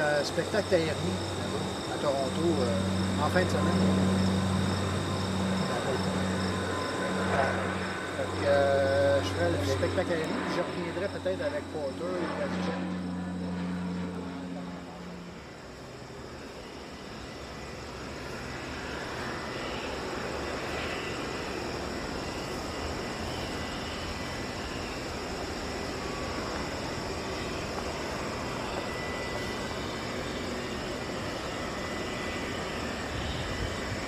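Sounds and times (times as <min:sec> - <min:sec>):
airliner jet engines: 0:00.0 - 0:34.0.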